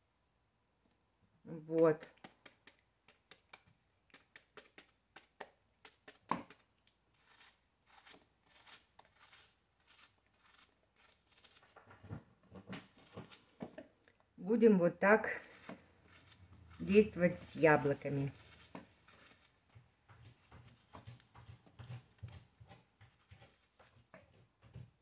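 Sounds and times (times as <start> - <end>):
knife cutting apple: 1.6 - 14.3, 15.2 - 24.0.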